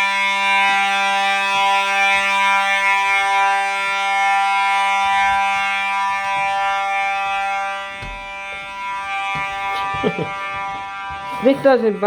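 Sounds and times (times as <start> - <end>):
fire alarm horn sounding: 0.0 - 12.0.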